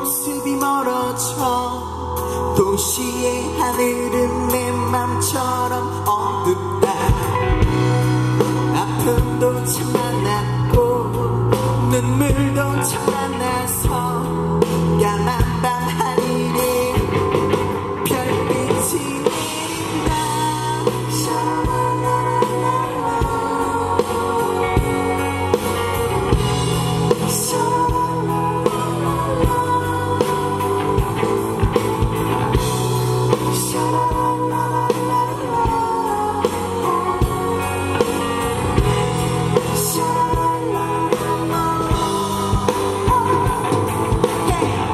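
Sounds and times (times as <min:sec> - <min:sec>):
drum kit: 0:00.0 - 0:44.9
electric bass: 0:00.0 - 0:44.9
electric guitar: 0:00.0 - 0:44.9
person singing through microphone: 0:00.0 - 0:44.9.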